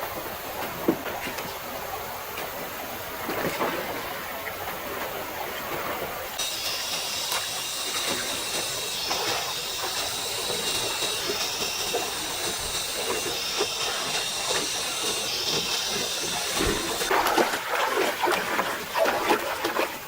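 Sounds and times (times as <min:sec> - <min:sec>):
stream running water: 0:00.0 - 0:20.0.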